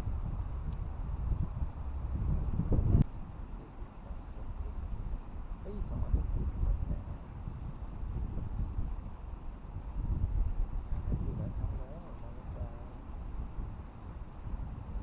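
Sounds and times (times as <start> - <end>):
cricket chirping: 0.0 - 15.0
wind rumble on microphone: 0.0 - 15.0.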